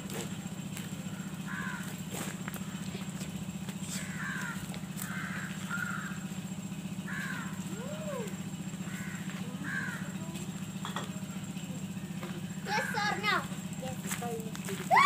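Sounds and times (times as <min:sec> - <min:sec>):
steady low hum: 0:00.0 - 0:15.0
birds calling: 0:00.8 - 0:15.0.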